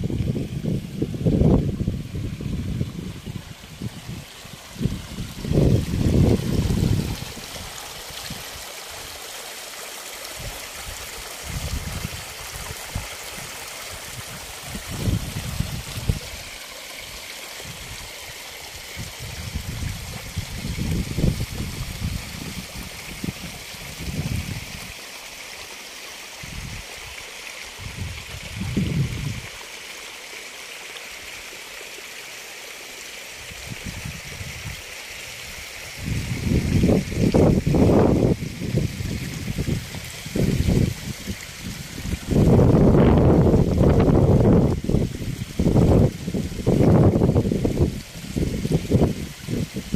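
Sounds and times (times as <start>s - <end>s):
water gushing and splashing: 0.0s - 49.9s.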